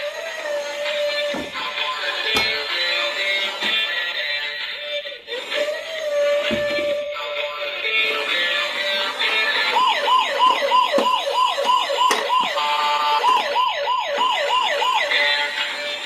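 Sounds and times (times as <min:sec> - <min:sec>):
toy police siren wailing: 0:00.0 - 0:03.6, 0:05.1 - 0:16.0.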